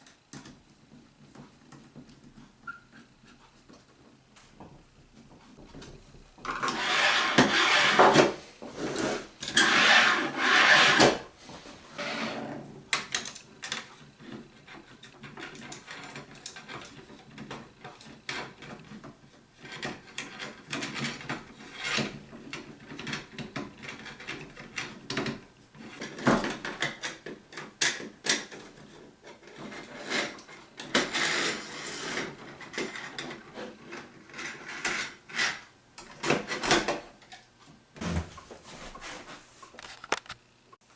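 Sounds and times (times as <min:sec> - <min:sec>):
parts and tools rubbing and scraping: 0:05.2 - 0:37.3, 0:38.0 - 0:40.4.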